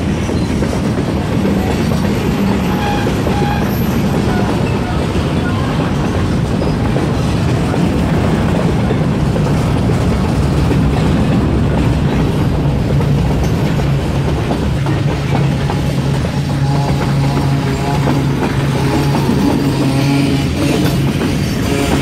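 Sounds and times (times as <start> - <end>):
freight train cars rolling past: 0.0 - 22.0.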